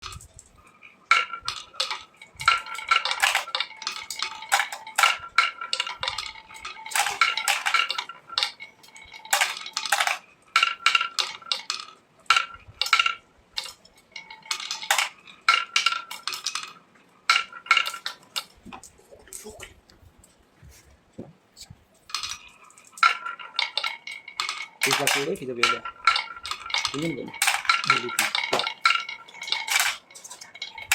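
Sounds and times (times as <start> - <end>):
small hard objects clinking: 0.0 - 19.7, 22.0 - 30.9.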